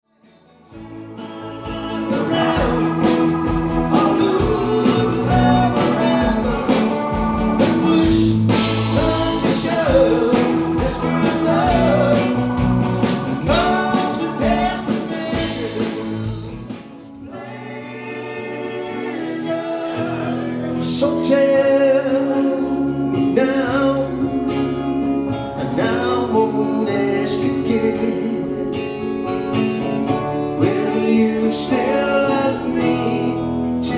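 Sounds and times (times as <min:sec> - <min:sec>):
live band music: 0:00.2 - 0:33.9
person singing: 0:00.5 - 0:29.0, 0:30.0 - 0:33.9.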